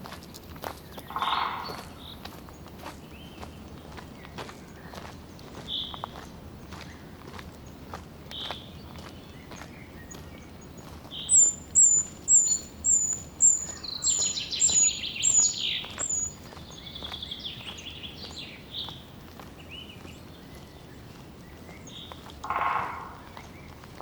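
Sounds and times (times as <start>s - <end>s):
faint footsteps: 0.0s - 11.2s, 15.8s - 24.0s
songbird singing: 0.0s - 24.0s.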